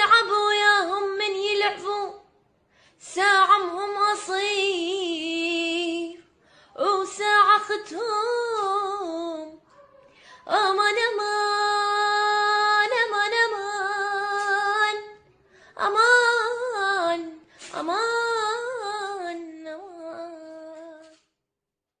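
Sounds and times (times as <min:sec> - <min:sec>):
woman singing unaccompanied: 0:00.0 - 0:02.3, 0:03.0 - 0:09.6, 0:10.4 - 0:15.2, 0:15.8 - 0:21.1.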